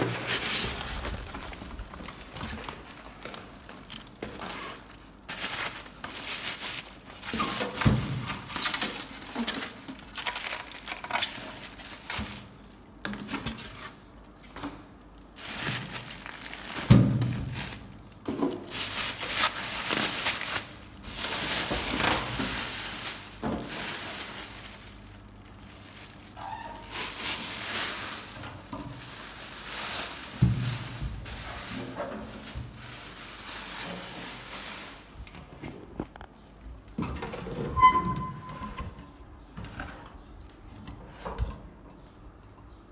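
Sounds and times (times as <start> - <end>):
plastic wrapping crinkling: 0.0 - 36.7.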